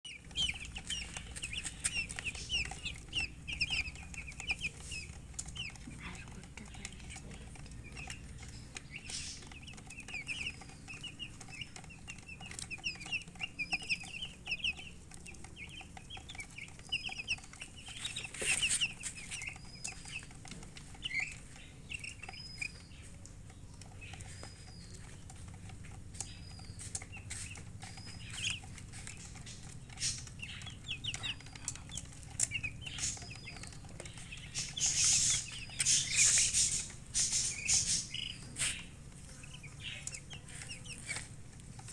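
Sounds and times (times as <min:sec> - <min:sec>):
chicks chirping: 0:00.0 - 0:41.9
hen clucking: 0:00.1 - 0:41.9.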